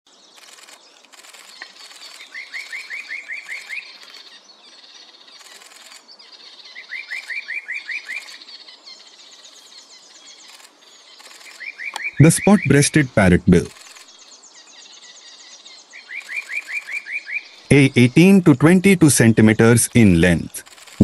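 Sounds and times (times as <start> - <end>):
birds chirping: 0.1 - 21.0.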